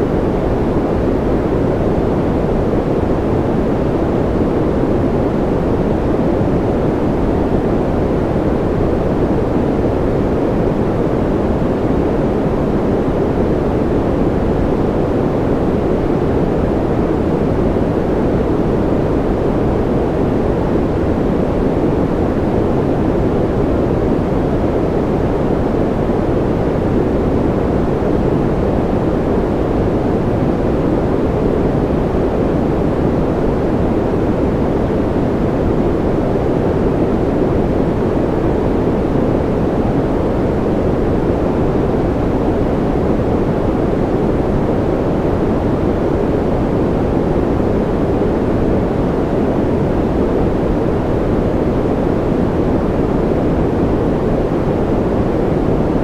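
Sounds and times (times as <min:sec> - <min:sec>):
deep muffled white noise: 0:00.0 - 0:56.0.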